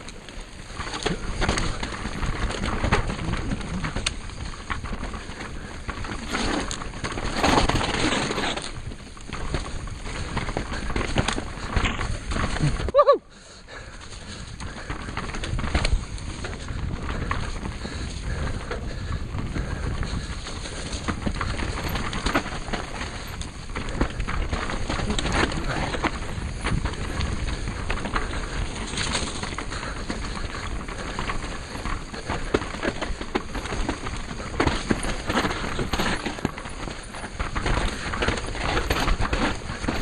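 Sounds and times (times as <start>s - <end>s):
bike rattling and knocking: 0.0s - 40.0s
bike tyres rumbling on dirt: 0.0s - 40.0s.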